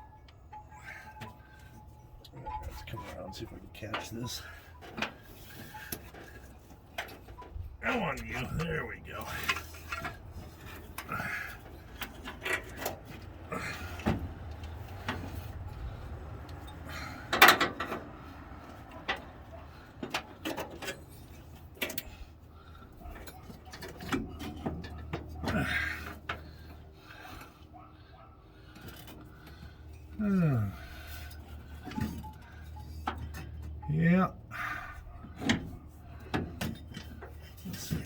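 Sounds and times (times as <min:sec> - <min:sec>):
tools and engine parts clinking: 0:00.0 - 0:38.0.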